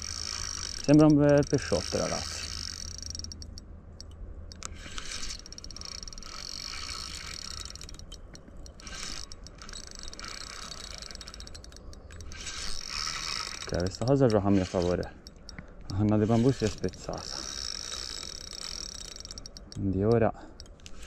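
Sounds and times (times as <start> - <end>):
fishing reel ticking and whirring: 0.0 - 21.0.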